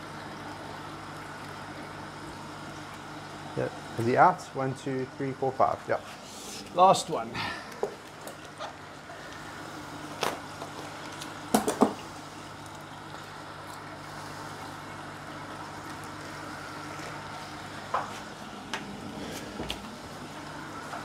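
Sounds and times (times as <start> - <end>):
equipment hum: 0.0 - 21.0.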